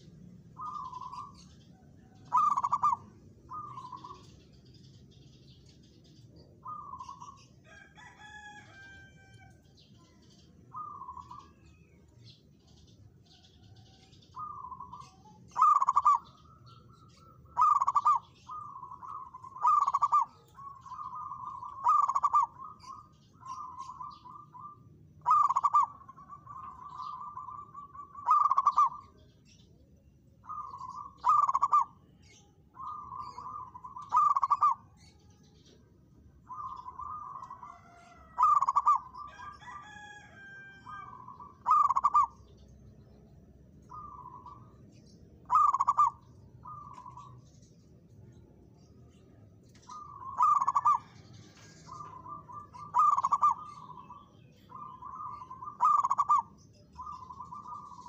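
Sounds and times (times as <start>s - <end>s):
dove cooing: 0.0s - 4.5s, 6.3s - 11.8s, 13.3s - 29.3s, 30.4s - 35.8s, 36.4s - 42.6s, 43.8s - 44.8s, 45.4s - 47.4s, 49.8s - 58.0s.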